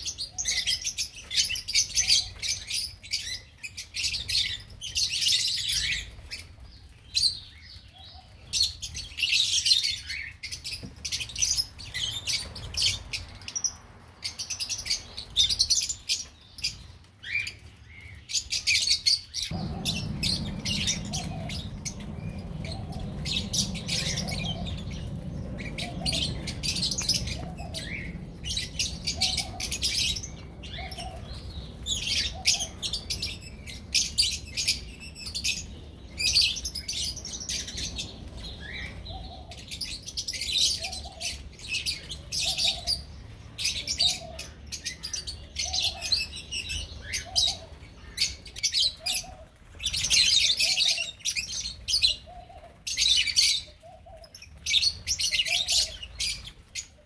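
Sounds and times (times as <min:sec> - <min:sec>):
lovebirds chirping and chattering: 0:00.0 - 0:57.0.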